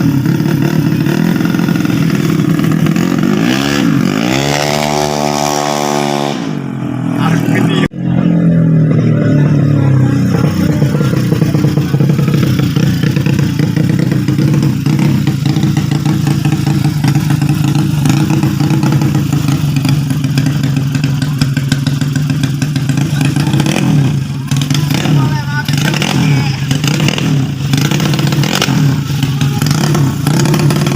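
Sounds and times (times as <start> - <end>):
scooter engine running: 0.0 - 30.9.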